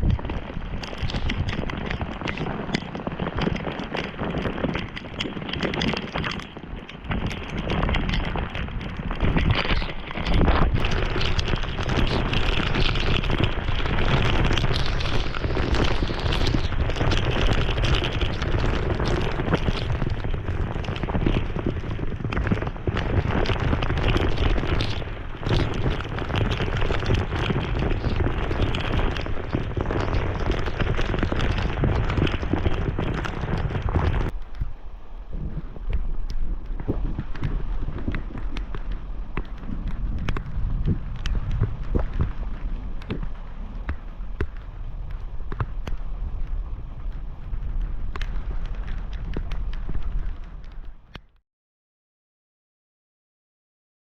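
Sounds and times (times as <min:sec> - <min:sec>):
heavy rain downpour: 0:00.0 - 0:50.8
thunder rumbling: 0:07.0 - 0:51.1.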